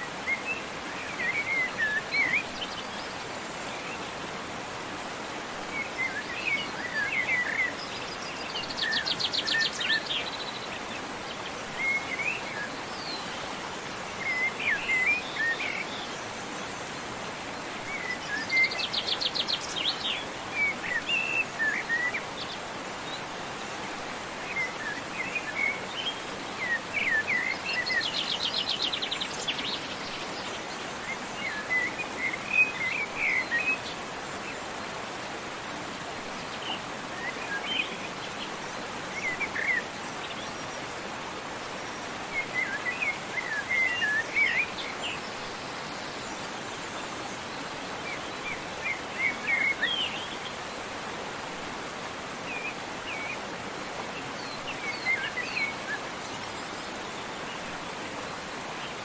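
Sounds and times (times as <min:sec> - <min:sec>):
small songbirds chirping: 0:00.0 - 0:59.0
waterfall rushing: 0:00.0 - 0:59.0.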